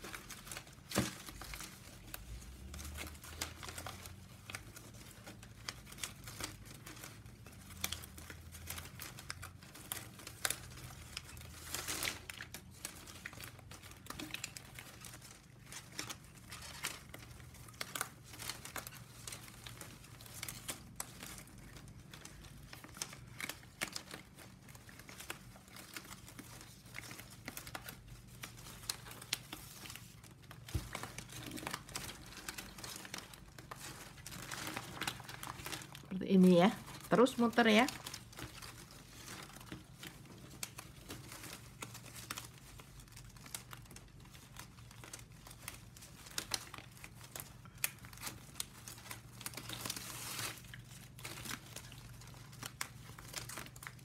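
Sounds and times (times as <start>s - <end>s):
plastic strapping crinkling: 0.0s - 54.0s.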